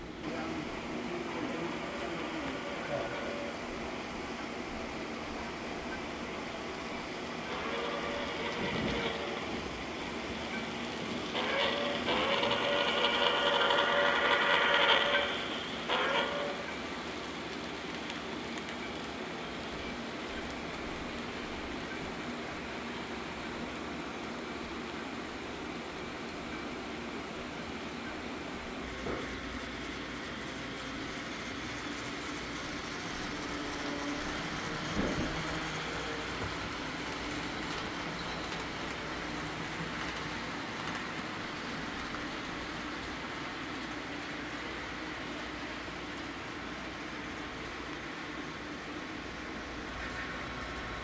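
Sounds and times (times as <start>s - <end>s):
model train rumbling on track: 0.0s - 51.0s.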